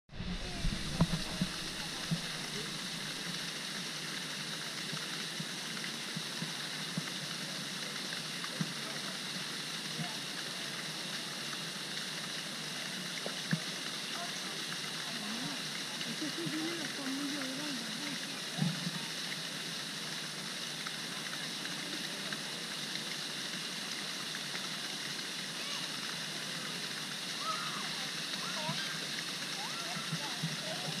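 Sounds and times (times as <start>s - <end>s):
fountain splashing into pond: 0.2s - 31.0s.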